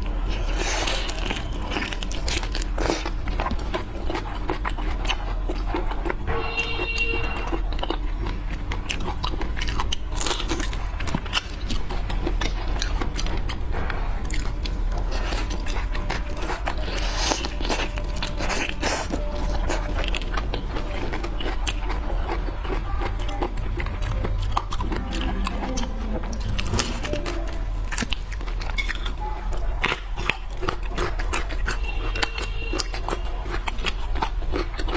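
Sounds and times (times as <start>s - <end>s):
biting and chewing: 0.0s - 34.9s
low steady hum: 0.0s - 34.9s.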